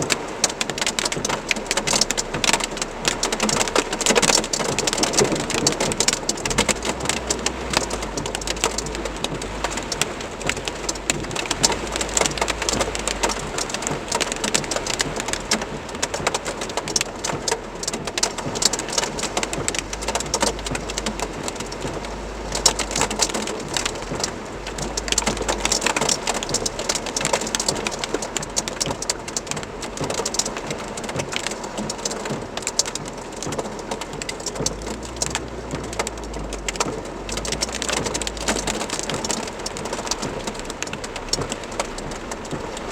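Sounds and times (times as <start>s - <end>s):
heavy rain and hail: 0.0s - 42.9s.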